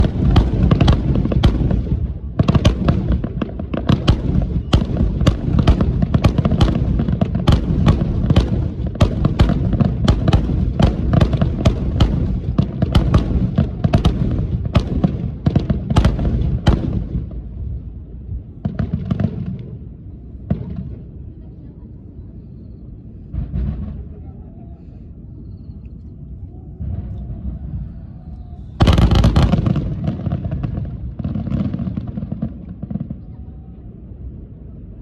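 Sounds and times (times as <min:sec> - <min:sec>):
fireworks bangs: 0:00.0 - 0:21.5, 0:23.1 - 0:24.3, 0:26.8 - 0:33.4.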